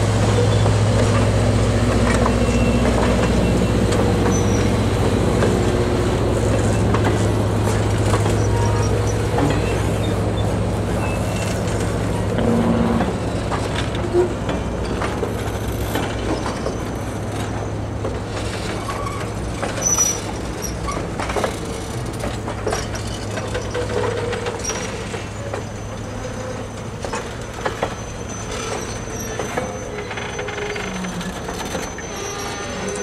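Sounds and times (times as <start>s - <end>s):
low train rumble: 0.0s - 33.0s
train wheels knocking over rail joints: 0.1s - 32.8s
wheel squeals: 0.2s - 22.0s, 22.6s - 33.0s.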